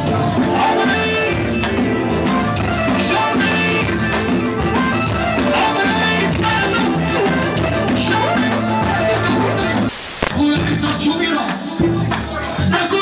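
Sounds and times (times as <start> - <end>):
band playing with singing: 0.0 - 13.0.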